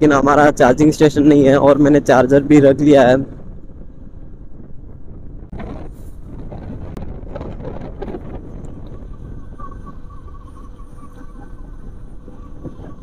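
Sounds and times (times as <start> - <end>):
scooter road noise rumble: 0.0 - 13.0
wind buffeting microphone: 0.0 - 13.0.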